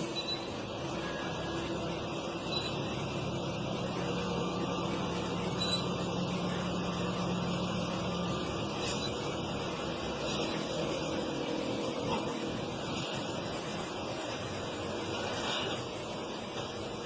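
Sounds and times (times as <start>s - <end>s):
truck engine running: 0.7s - 15.3s.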